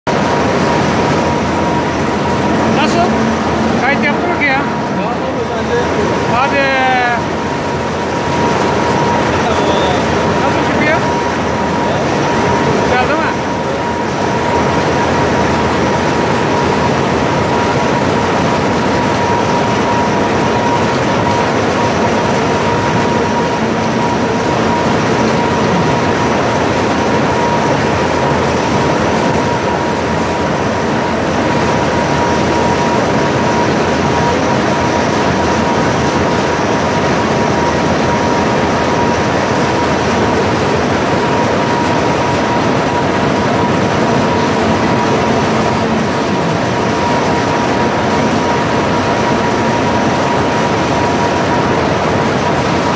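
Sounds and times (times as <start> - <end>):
constant machine whine: 0.0 - 52.9
cotton gin machine din: 0.1 - 52.9.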